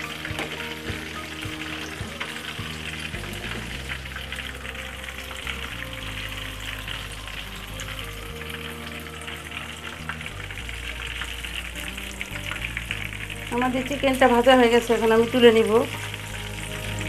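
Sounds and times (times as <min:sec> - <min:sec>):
chicken frying in hot oil: 0:00.0 - 0:17.0
soft background music: 0:00.0 - 0:17.0.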